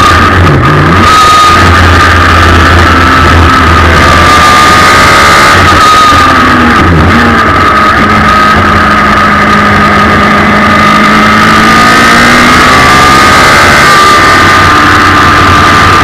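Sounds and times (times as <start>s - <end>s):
loud motorcycle engine: 0.0s - 16.0s
steady high whine: 0.0s - 16.0s.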